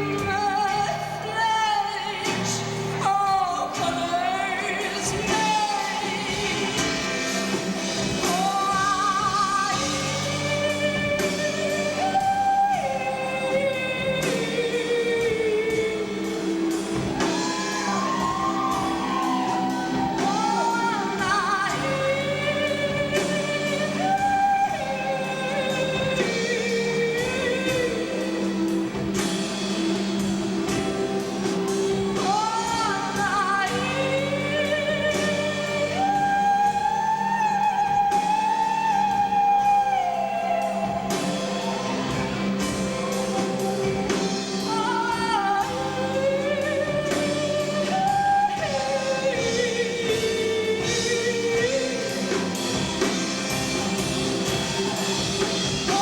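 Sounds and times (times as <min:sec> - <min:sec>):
lead singer singing: 0:00.0 - 0:56.0
live band playing: 0:00.0 - 0:56.0
steady drum beat: 0:00.0 - 0:56.0
sustained bass notes: 0:03.6 - 0:56.0.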